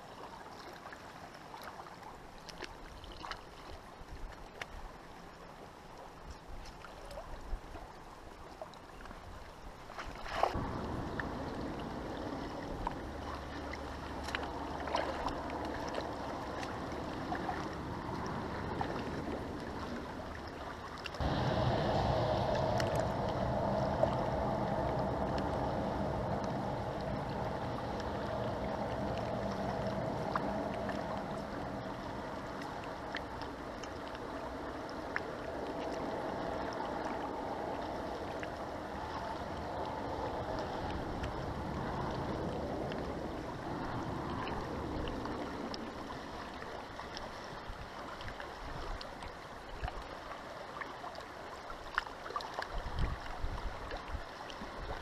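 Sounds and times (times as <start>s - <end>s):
river water rushing: 9.6s - 55.0s.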